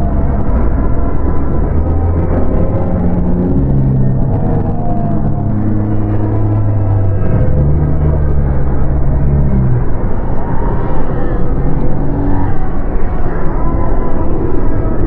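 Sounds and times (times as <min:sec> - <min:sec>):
dark ambient drone: 0:00.0 - 0:15.0
rough rumbling texture: 0:00.0 - 0:15.0.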